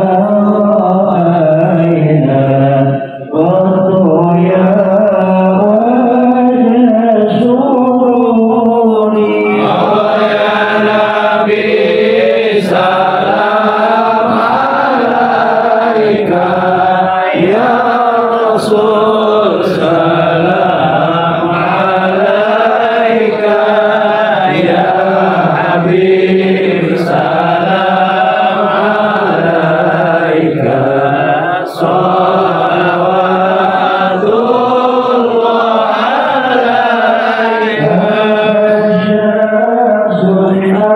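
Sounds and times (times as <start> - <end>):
voices chanting devotional song: 0.0 - 40.9.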